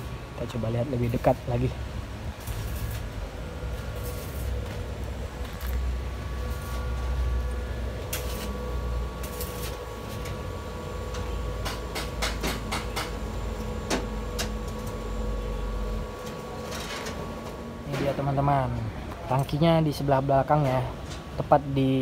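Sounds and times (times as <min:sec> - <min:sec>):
machine hum with faint whine: 0:00.0 - 0:22.0.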